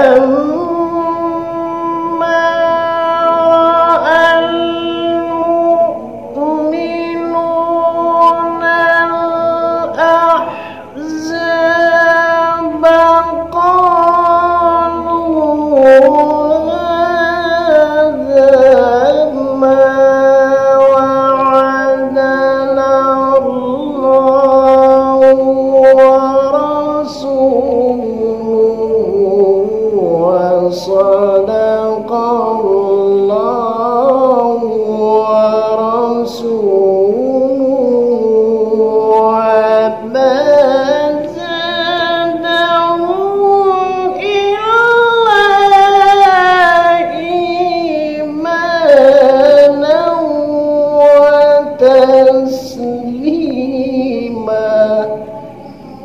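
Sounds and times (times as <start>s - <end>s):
man reciting melodically: 0.0s - 55.6s.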